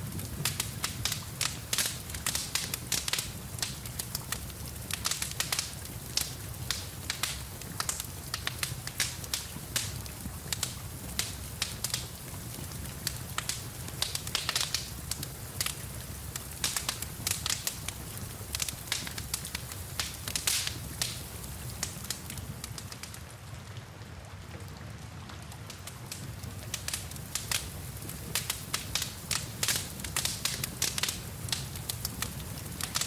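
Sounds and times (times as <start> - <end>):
rain hissing: 0.0 - 23.1, 26.1 - 33.0
wood fire crackling and popping: 0.0 - 23.8, 24.5 - 33.0.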